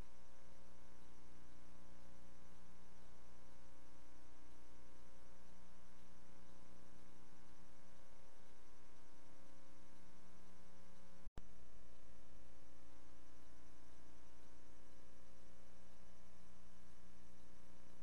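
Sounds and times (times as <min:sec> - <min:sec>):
electrical hum with faint hiss: 0:00.0 - 0:18.0.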